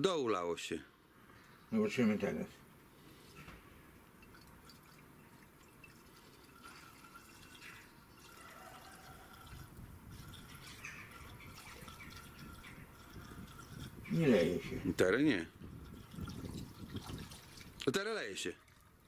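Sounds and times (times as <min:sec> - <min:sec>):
liquid trickling through funnel: 0:03.1 - 0:19.0.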